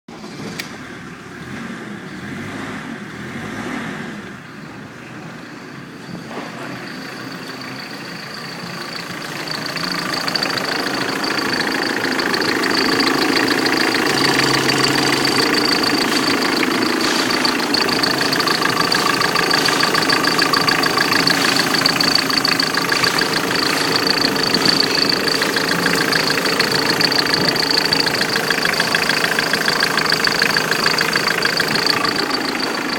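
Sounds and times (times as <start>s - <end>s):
diesel engine running: 4.4s - 32.9s
high whine: 5.9s - 32.9s.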